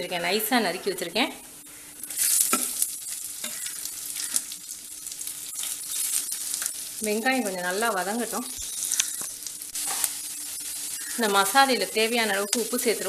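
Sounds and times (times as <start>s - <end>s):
onions sizzling in hot oil: 1.6s - 13.0s.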